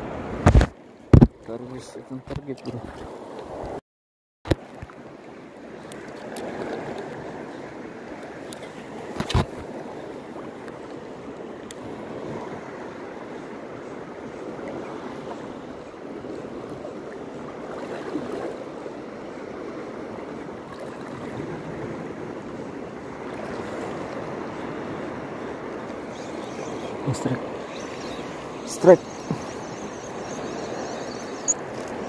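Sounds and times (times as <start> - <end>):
sea waves washing on shore: 4.5 - 32.0.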